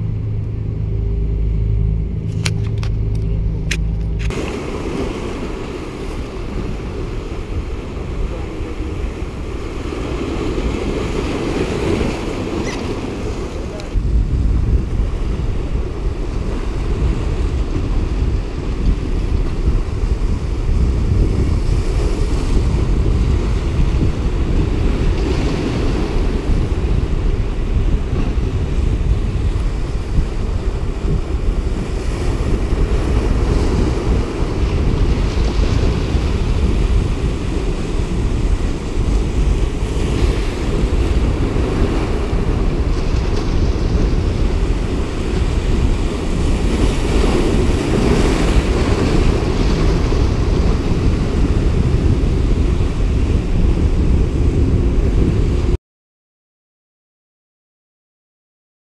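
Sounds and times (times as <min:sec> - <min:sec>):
wind buffeting microphone: 0:00.0 - 0:55.8
surf splashing over rocks: 0:04.2 - 0:52.9.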